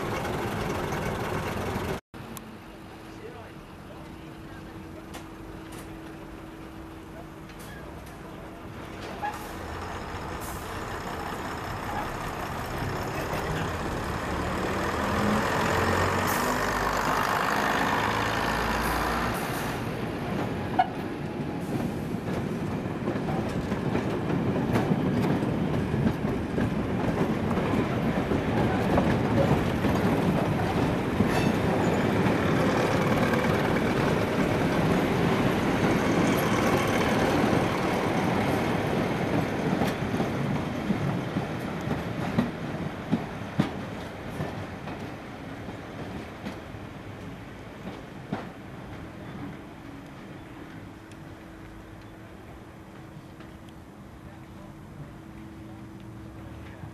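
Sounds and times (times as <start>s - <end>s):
train coaches rumbling: 0.0s - 2.0s, 2.7s - 56.9s
wheels clickety-clack over rail joints: 0.0s - 2.0s, 7.1s - 54.8s
diesel train engines pulling: 0.0s - 23.7s, 27.4s - 56.9s.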